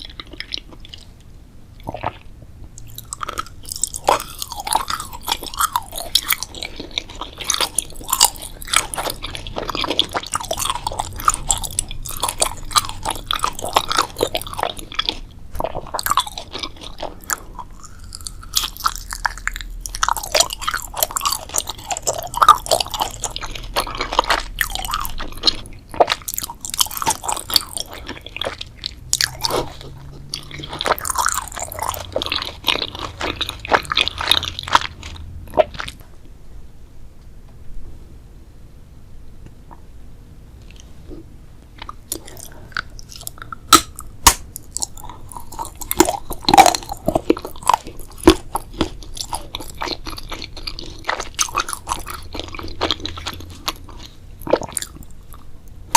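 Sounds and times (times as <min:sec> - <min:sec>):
person chewing crunchy food: 0:00.0 - 0:36.2, 0:40.6 - 0:55.9.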